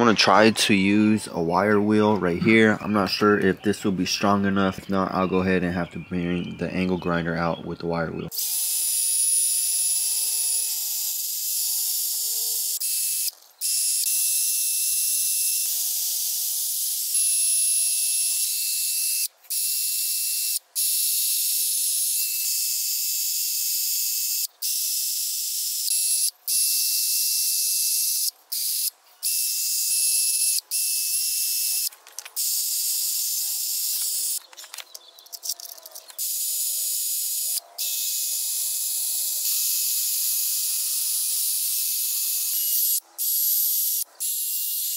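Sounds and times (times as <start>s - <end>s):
faint drill motor whine: 8.3s - 44.9s.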